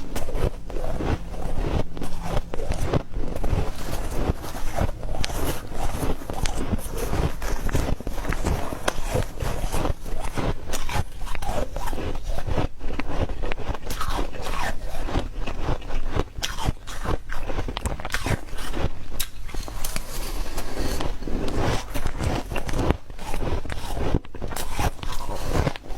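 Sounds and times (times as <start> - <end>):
chewing ice crunching: 0.0 - 25.9.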